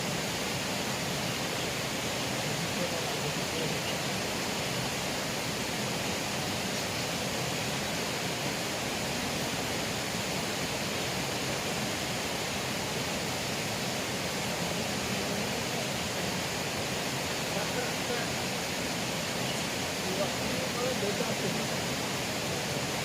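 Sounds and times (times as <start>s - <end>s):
water rushing in a river: 0.0s - 23.0s.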